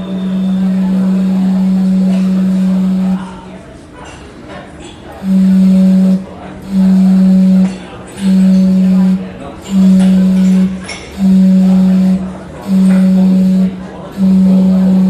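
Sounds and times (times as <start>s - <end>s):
steam whistle blasts: 0.0s - 3.4s, 5.2s - 15.0s.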